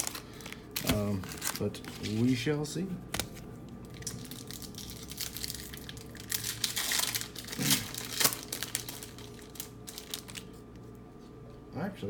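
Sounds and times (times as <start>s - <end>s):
wrappers tearing and crinkling: 0.0s - 2.5s, 3.1s - 10.6s.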